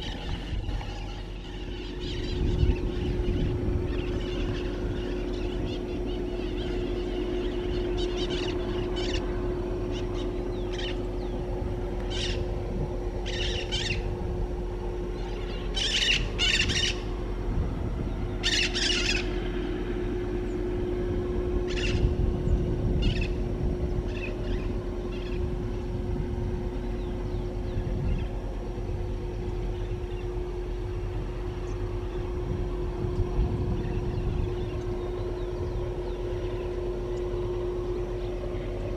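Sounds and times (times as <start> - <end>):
birds calling: 0.0 - 38.9
low rumble: 0.0 - 38.9
steady hum: 0.0 - 38.9.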